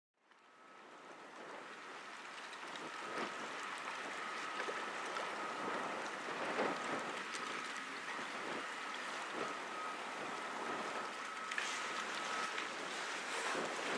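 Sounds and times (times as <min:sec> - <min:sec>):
river water splashing and lapping: 0:00.2 - 0:13.9
faint high whine: 0:00.4 - 0:13.9.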